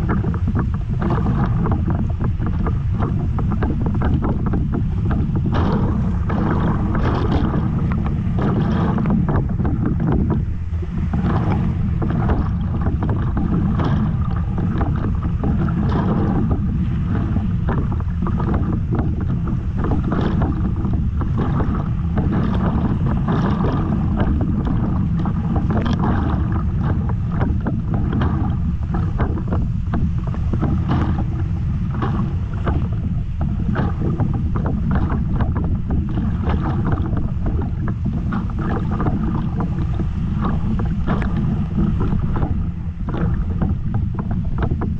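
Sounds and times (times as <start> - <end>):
paddle splashes: 0.0 - 44.9
wind buffeting microphone: 0.0 - 44.9.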